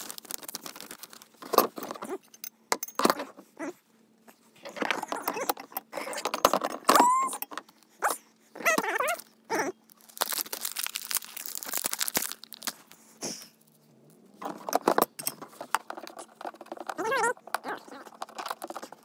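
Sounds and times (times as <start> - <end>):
plastic parts rustling and clicking: 0.0 - 3.4, 4.6 - 13.0, 14.4 - 19.0.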